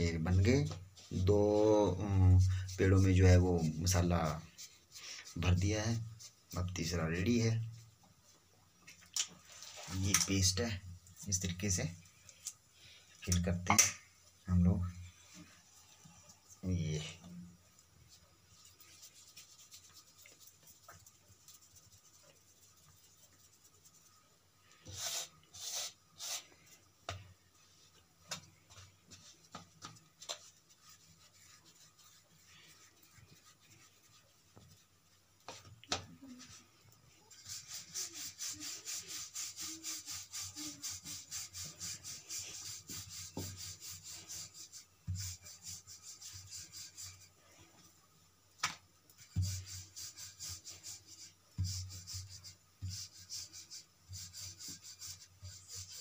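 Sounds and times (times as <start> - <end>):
rolling pin rubbing strokes: 0.0 - 8.0, 9.4 - 12.5, 14.6 - 48.0, 49.1 - 56.0
soft dough handling: 0.0 - 56.0.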